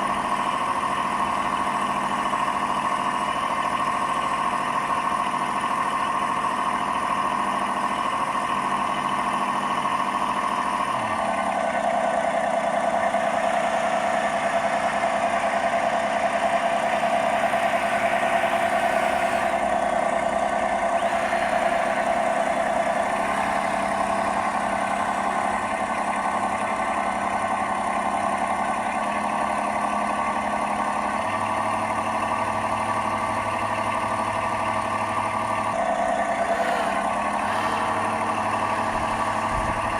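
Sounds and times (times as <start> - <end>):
simulated diesel engine sound: 0.0 - 39.9.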